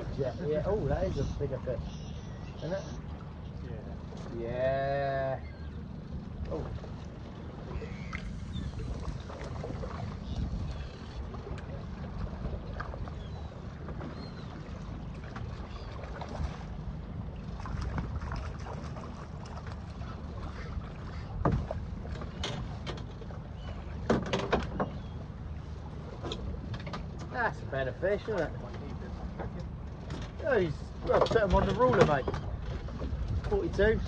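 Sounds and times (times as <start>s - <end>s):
wind and water rumble: 0.0s - 34.0s.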